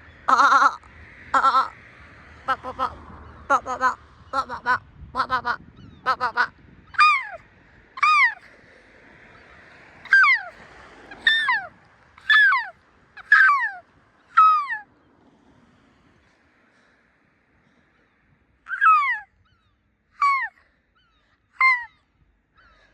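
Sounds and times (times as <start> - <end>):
gulls calling: 0.0 - 8.6, 9.2 - 14.9, 17.7 - 22.9.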